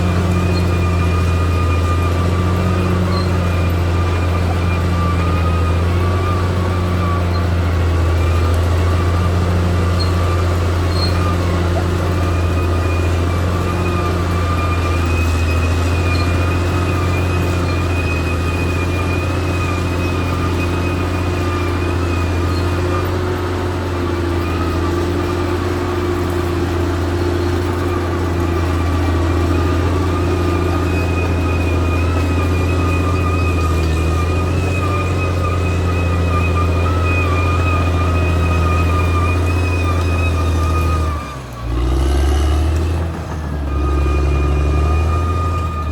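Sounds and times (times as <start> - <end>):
bulldozer diesel engine drone: 0.0 - 45.9.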